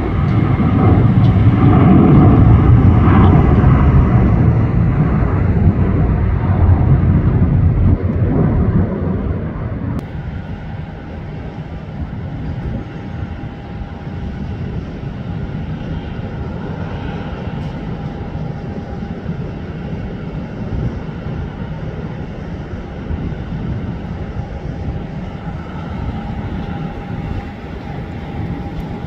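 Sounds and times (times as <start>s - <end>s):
airliner jet hum with whine: 0.0s - 29.0s
jet engines rumbling: 0.0s - 29.0s.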